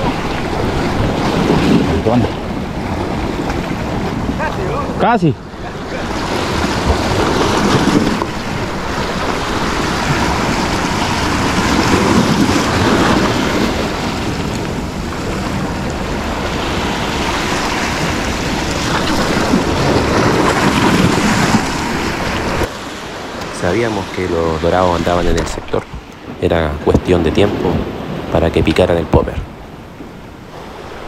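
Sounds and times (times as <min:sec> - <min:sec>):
sea waves: 0:00.0 - 0:31.0
wind blowing on microphone: 0:00.0 - 0:31.0.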